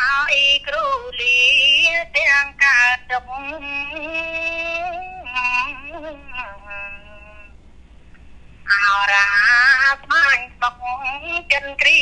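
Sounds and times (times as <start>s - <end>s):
man chanting: 0.0s - 7.5s, 8.7s - 12.0s.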